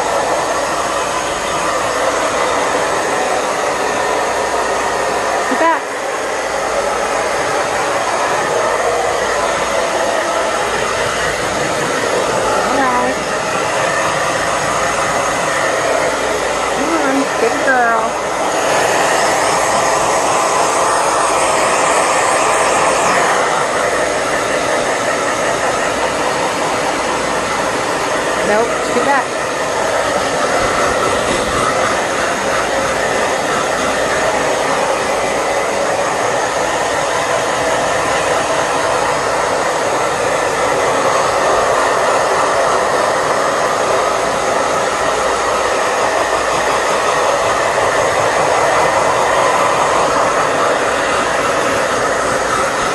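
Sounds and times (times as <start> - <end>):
hair dryer blowing air: 0.0 - 52.9.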